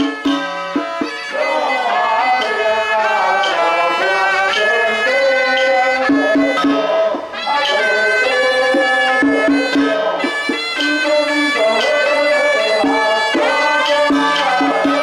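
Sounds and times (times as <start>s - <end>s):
sharp percussion strokes: 0.0s - 15.0s
sliding folk melody: 0.0s - 15.0s.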